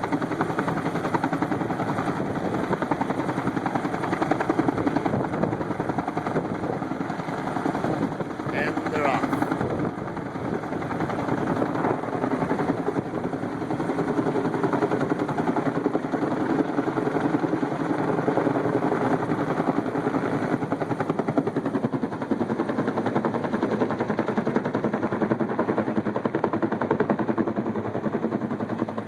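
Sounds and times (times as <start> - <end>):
helicopter rotor blades chopping: 0.0 - 29.0.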